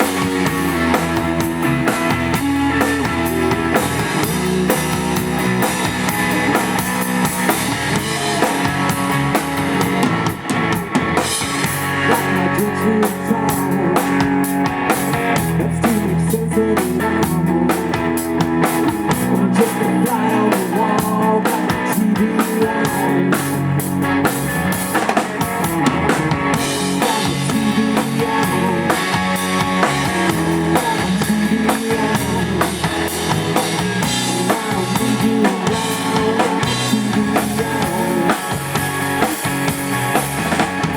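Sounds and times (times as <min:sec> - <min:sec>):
bass guitar: 0:00.0 - 0:40.9
electric guitars: 0:00.0 - 0:40.9.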